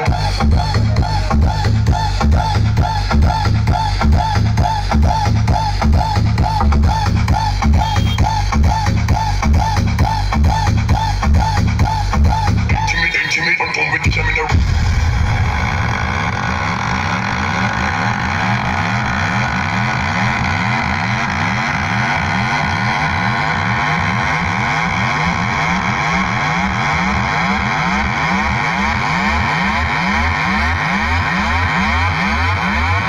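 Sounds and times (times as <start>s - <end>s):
electronic dance music: 0.0s - 33.0s.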